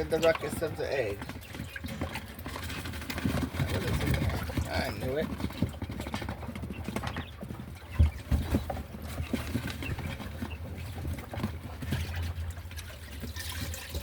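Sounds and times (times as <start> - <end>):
hen clucking: 0.0 - 13.3.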